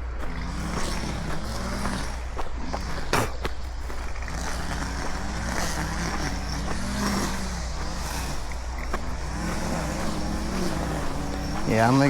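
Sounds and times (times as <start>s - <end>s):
small engine yard equipment running: 0.0s - 12.0s.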